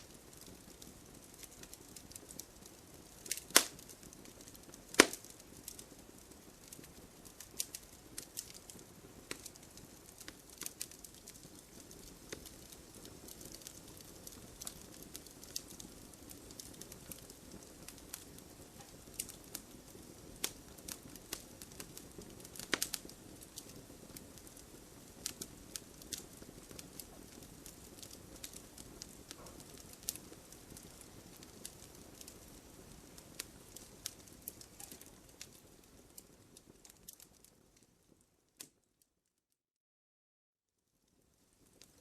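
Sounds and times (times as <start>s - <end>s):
soft rush of flame: 0.0s - 38.2s
wood fire crackling and popping: 0.0s - 38.9s, 41.1s - 42.0s.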